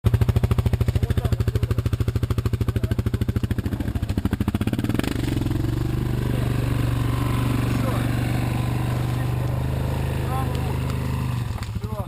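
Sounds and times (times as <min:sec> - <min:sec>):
engine pulsing: 0:00.0 - 0:12.0.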